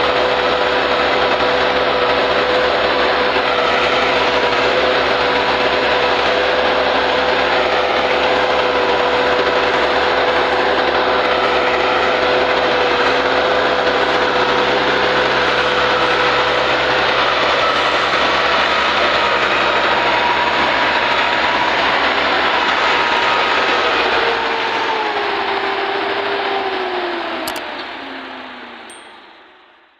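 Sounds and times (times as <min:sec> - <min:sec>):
constant whine: 0:00.0 - 0:29.9
tractor diesel engine under load: 0:00.0 - 0:29.9.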